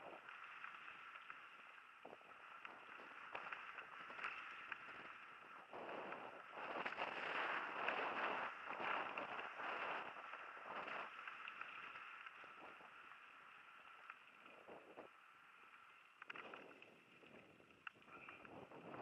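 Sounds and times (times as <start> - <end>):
bike tyres rolling on dirt: 0.0 - 19.0.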